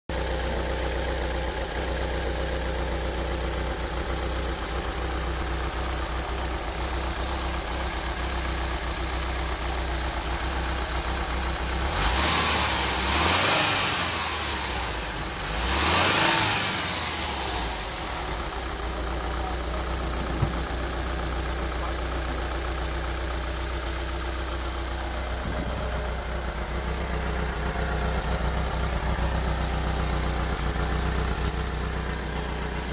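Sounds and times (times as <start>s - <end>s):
engine idling and revving: 0.1s - 32.9s.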